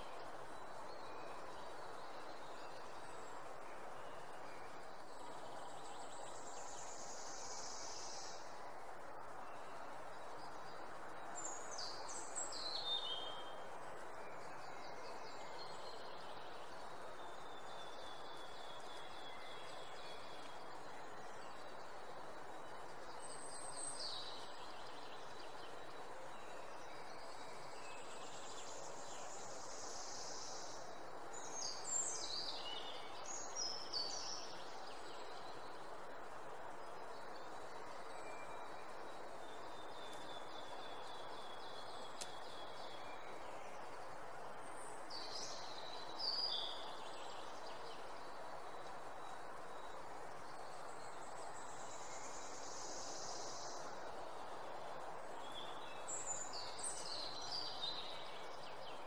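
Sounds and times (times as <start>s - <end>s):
songbirds calling: 0.0s - 59.0s.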